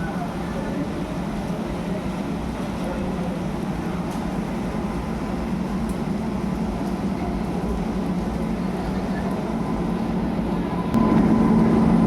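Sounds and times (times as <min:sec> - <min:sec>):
train rumble and hum: 0:00.0 - 0:12.0.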